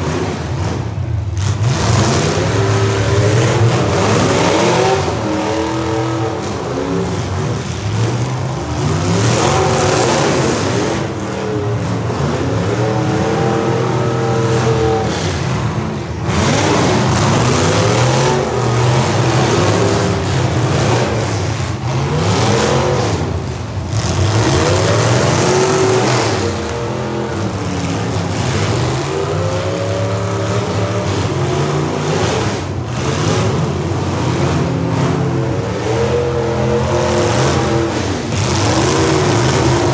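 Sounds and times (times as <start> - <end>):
car engines revving: 0.0 - 39.9
steady engine rumble: 0.0 - 39.9.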